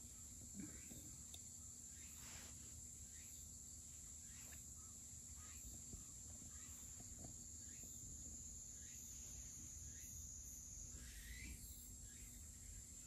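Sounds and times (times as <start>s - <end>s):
faint bird chirps: 0.0s - 13.0s
steady high-pitched whine: 0.0s - 13.0s.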